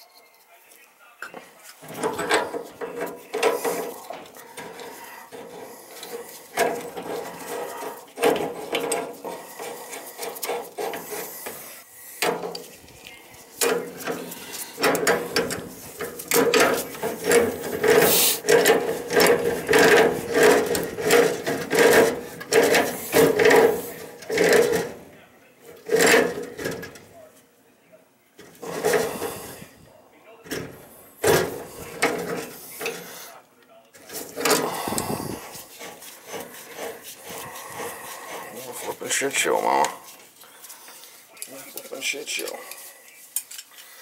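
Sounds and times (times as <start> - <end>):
metal scraping on metal: 1.6 - 27.3, 28.4 - 29.9, 30.5 - 33.4, 34.0 - 44.0.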